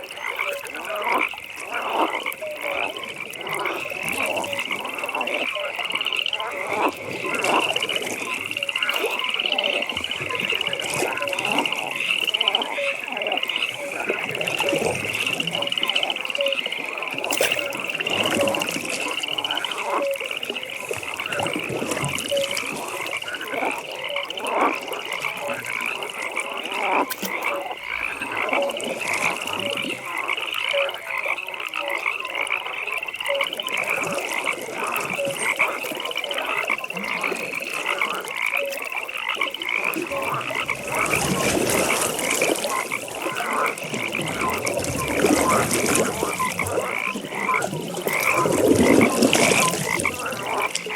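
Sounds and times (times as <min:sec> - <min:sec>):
frogs croaking: 0:00.0 - 0:50.9
high-pitched frog call: 0:00.0 - 0:50.9.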